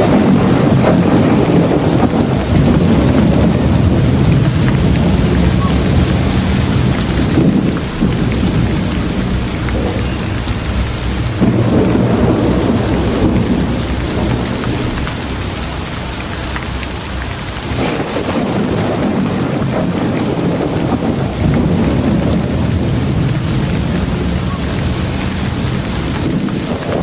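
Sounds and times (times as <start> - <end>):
deep low rumble: 0.0 - 27.0
steady rain falling: 0.0 - 27.0.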